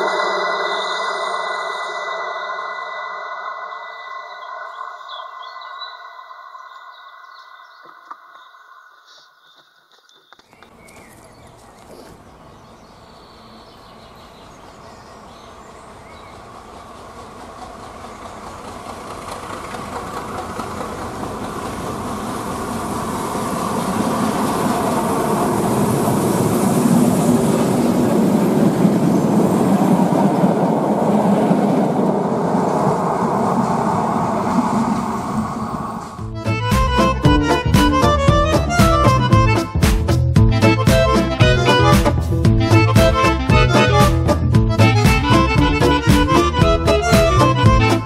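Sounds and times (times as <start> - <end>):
diesel railcar passing: 0.0 - 9.0, 10.7 - 48.0.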